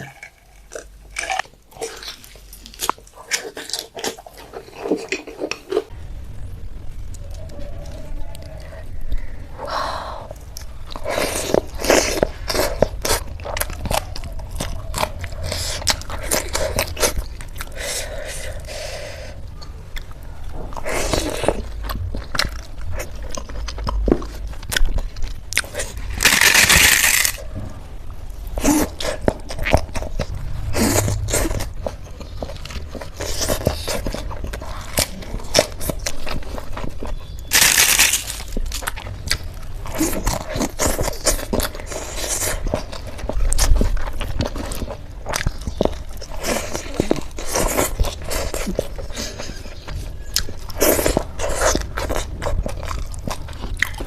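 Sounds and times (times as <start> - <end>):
close-miked crunching and chewing: 0.0 - 54.0.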